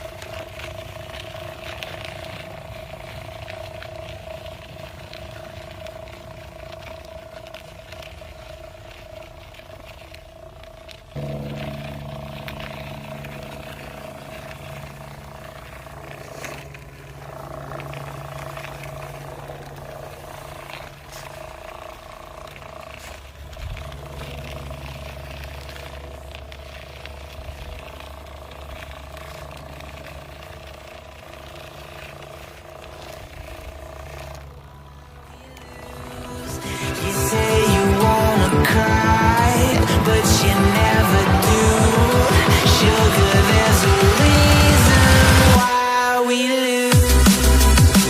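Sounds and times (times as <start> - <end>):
small scrapes and clicks: 0.0 - 40.0
engine-like drone: 0.0 - 48.0.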